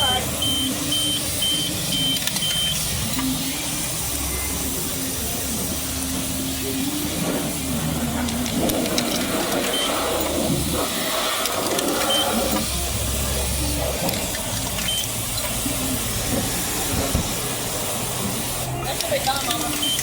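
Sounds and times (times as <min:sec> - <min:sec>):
machinery humming: 0:00.0 - 0:20.0
pressure washer spraying water: 0:00.0 - 0:20.0.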